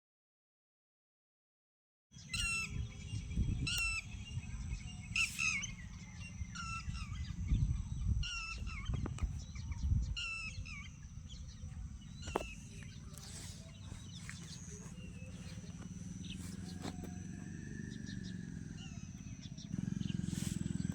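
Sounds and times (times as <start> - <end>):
birds chirping: 2.1 - 20.9
steady low rumble: 2.5 - 20.9.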